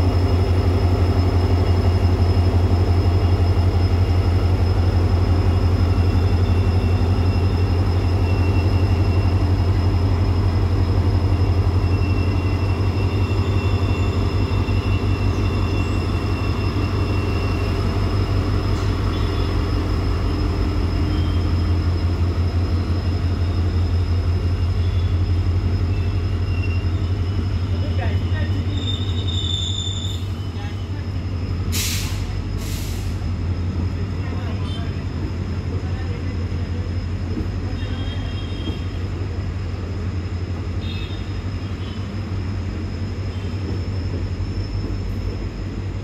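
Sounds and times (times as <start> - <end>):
train coaches rolling: 0.0 - 46.0.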